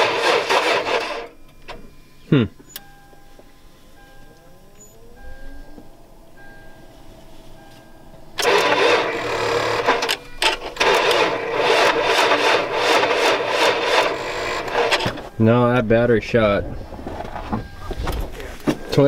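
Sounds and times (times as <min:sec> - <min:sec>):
car engine starting: 0:00.0 - 0:19.0.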